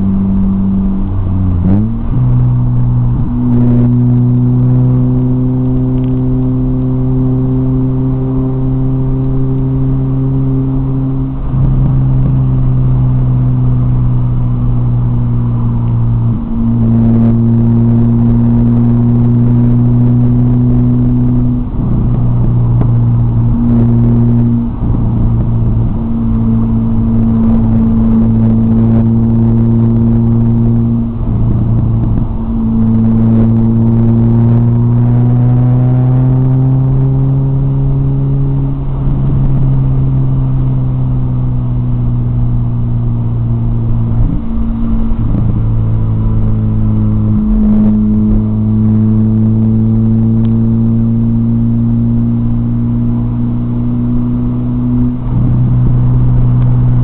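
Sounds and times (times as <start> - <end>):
car engine while driving: 0.0 - 57.0.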